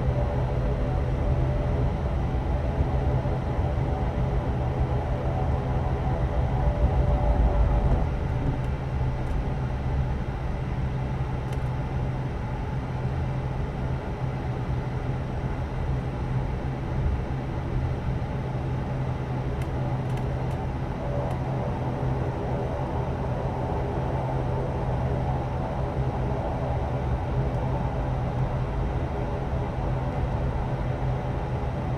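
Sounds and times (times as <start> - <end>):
airliner cabin engine drone: 0.0 - 31.9.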